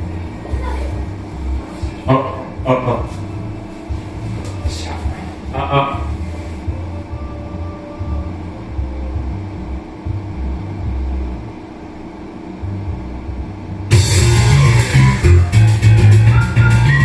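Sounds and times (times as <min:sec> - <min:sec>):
karaoke backing track: 0:00.0 - 0:11.3, 0:12.8 - 0:17.0
muffled low bass pulsing: 0:00.0 - 0:17.0.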